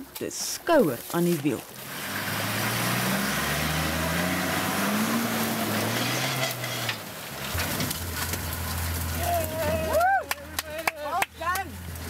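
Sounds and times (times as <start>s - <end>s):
vehicle engine labouring: 0.0s - 12.0s
water splashing around wheels: 0.0s - 12.0s.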